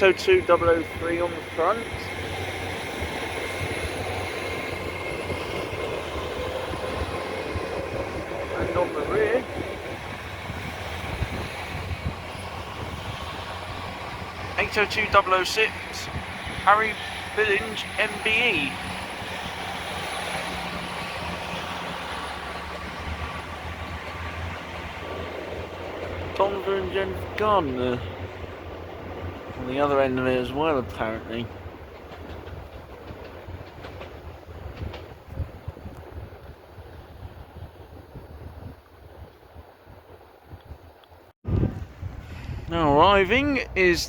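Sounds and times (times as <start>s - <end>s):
train wheels rolling on rails: 0.0s - 40.2s
train diesel engines: 0.0s - 40.4s, 41.8s - 44.0s.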